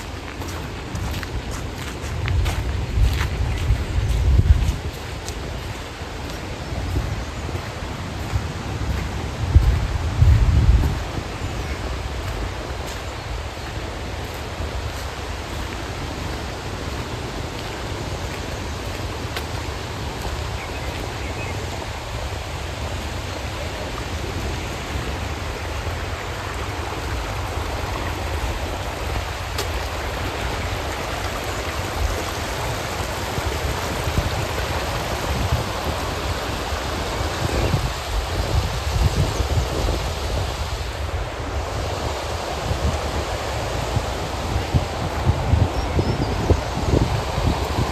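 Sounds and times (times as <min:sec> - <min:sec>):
rain hiss: 0:00.0 - 0:47.9
wind buffeting microphone: 0:00.0 - 0:47.9.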